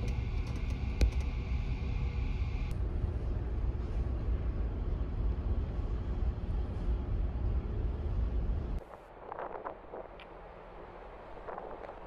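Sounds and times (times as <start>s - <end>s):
faint even hum: 0.0s - 10.2s.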